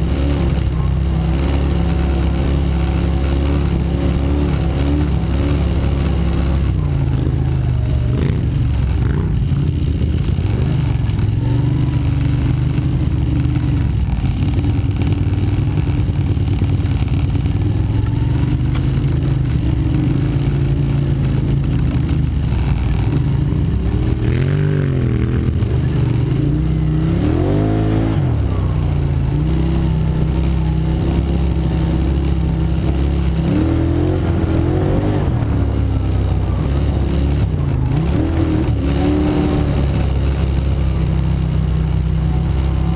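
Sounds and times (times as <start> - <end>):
atv engine revving: 0.0 - 42.9.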